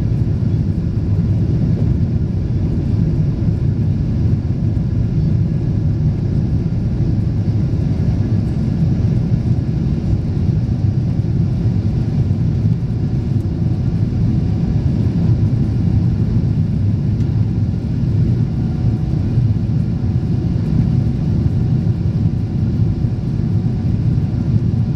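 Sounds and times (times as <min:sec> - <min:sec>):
jet engines rumbling in cabin: 0:00.0 - 0:24.9.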